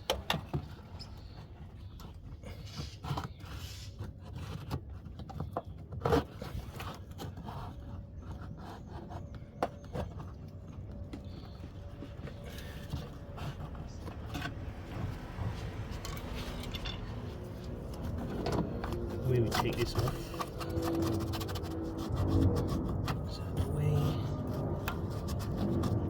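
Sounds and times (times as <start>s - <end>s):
hand tools clicking and scraping: 0.0s - 26.0s.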